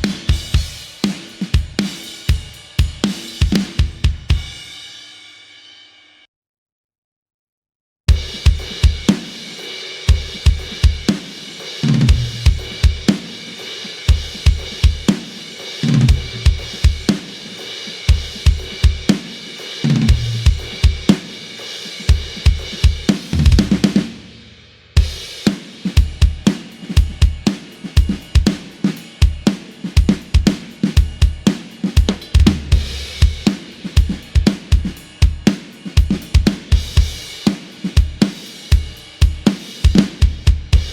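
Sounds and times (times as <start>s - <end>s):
fast pop-punk drum beat: 0.0s - 5.5s, 8.1s - 40.9s
cymbals and hi-hat: 0.0s - 6.0s, 8.1s - 40.9s.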